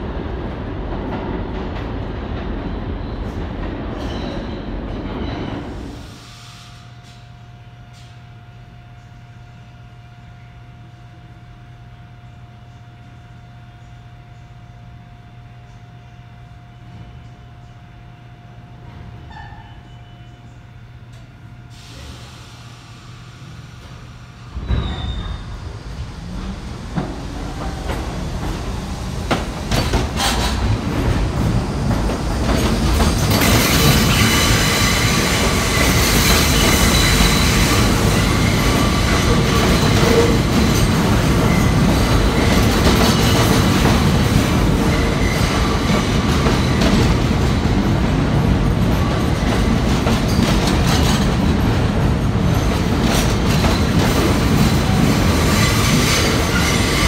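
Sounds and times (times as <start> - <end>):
subway train rumbling on tracks: 0.0 - 57.0.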